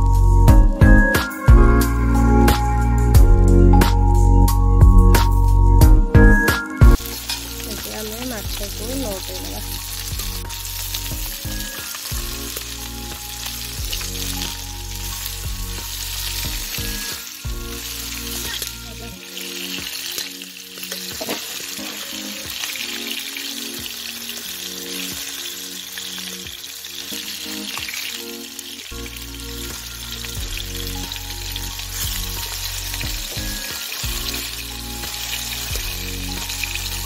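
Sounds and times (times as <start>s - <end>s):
fish sizzling in hot oil: 0.0s - 2.7s, 6.9s - 37.0s.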